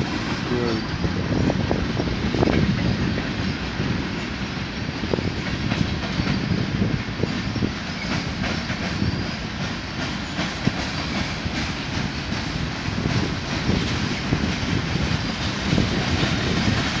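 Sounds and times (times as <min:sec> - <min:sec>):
train wheels rumbling on rails: 0:00.0 - 0:17.0
wheels clicking over rail joints: 0:00.0 - 0:17.0.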